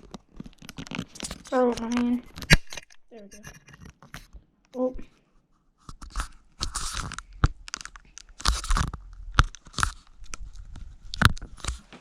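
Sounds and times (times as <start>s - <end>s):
crunchy rustling: 0.0s - 4.4s, 5.8s - 12.0s.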